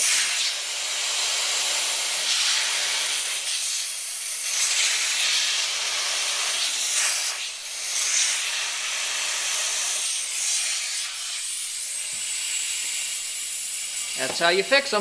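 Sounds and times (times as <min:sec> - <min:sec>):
compressed air hissing from tank: 0:00.0 - 0:15.0.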